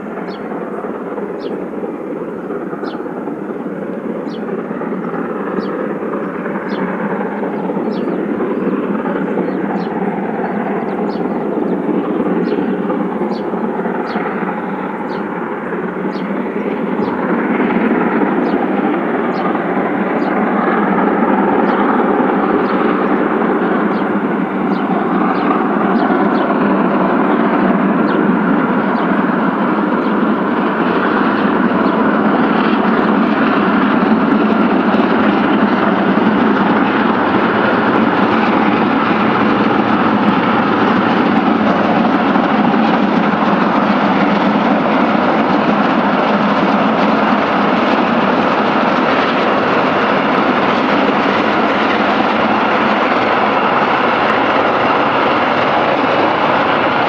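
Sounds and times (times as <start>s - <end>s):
steam locomotive exhaust roar: 0.0s - 57.0s.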